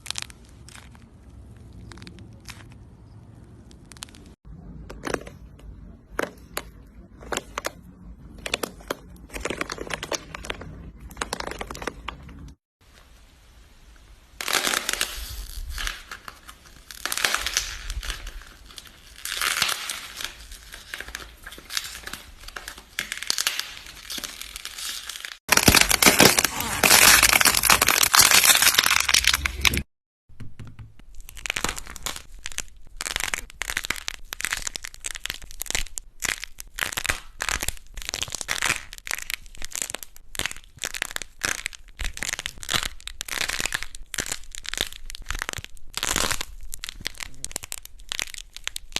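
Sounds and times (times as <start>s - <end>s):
crackling of something crushed: 0.0s - 5.5s, 6.2s - 12.6s, 14.4s - 29.9s, 31.0s - 48.9s.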